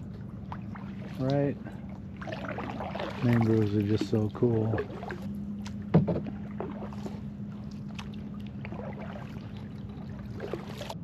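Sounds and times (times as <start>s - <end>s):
faint steady hum: 0.0s - 11.0s
paddle splashing water: 0.0s - 11.0s.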